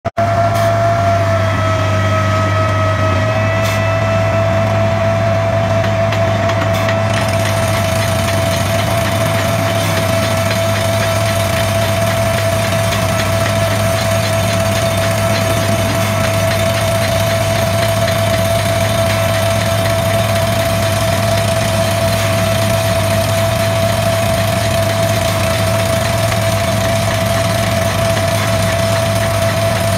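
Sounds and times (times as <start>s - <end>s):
high whine: 0.2s - 25.9s
drilling rig drilling into rock: 5.9s - 29.9s.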